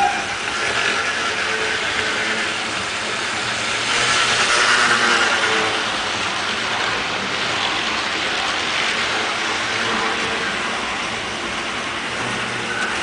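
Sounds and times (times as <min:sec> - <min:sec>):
model train cars rattling on track: 0:00.0 - 0:13.0.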